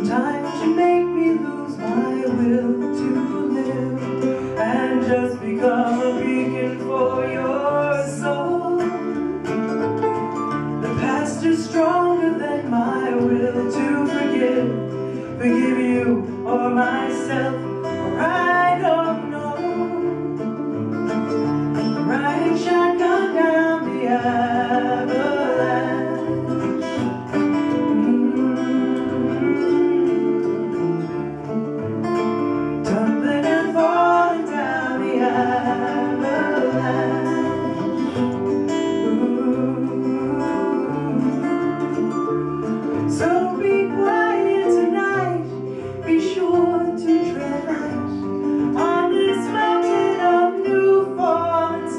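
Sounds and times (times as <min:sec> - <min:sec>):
person singing: 0:00.0 - 0:09.5, 0:10.8 - 0:20.6, 0:21.8 - 0:31.3, 0:32.8 - 0:51.9
acoustic guitar: 0:00.0 - 0:51.9.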